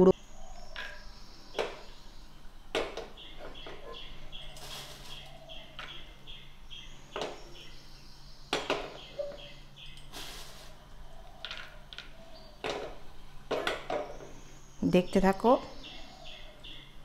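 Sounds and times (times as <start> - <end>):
bird chirping: 0.0 - 10.2, 10.9 - 17.0.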